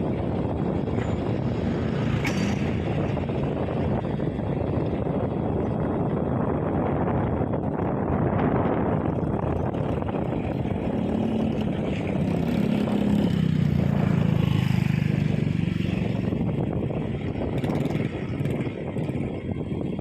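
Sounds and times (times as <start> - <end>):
heavy engine running: 0.0 - 20.0.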